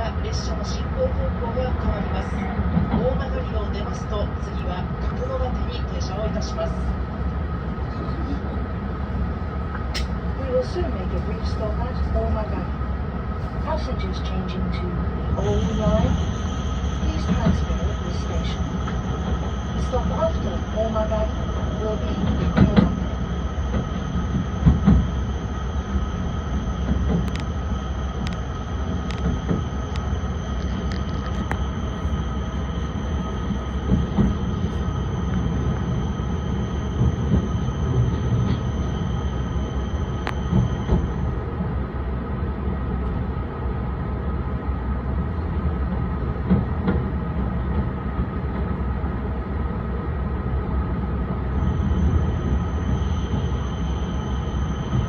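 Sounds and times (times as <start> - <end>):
thin steady whine: 0.0 - 55.0
train running rumble: 0.0 - 55.0.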